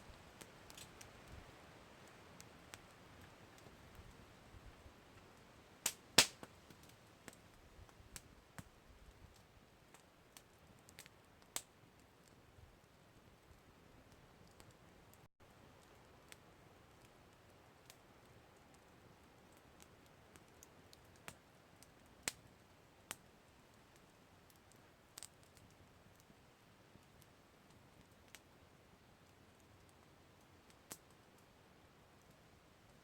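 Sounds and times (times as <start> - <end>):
campfire crackling and popping: 0.0 - 33.0
low steady hiss: 0.0 - 33.0.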